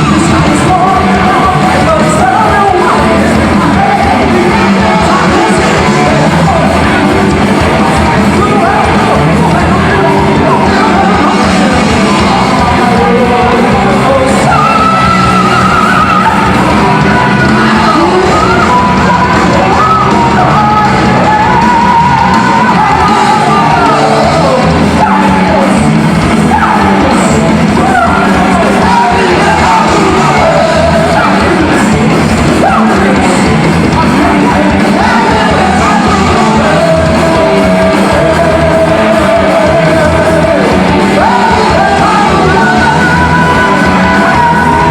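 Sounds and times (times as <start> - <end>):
heavy metal band playing live: 0.0 - 44.9
high sung and yelled vocal: 0.0 - 44.9.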